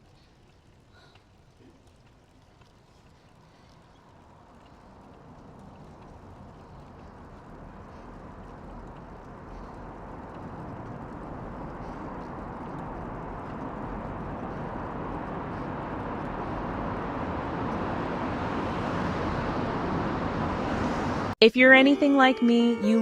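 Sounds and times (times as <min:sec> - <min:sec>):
rushing outdoor ambience: 0:00.0 - 0:21.4.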